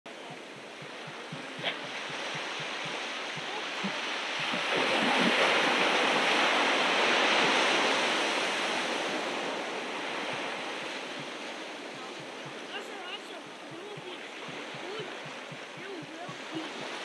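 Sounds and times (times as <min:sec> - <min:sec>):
wave breaking on beach: 0:00.1 - 0:17.0.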